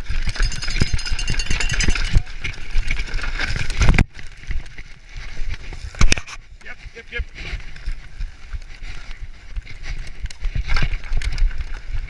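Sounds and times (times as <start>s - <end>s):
mountain bike rattling over rocks: 0.0s - 12.0s.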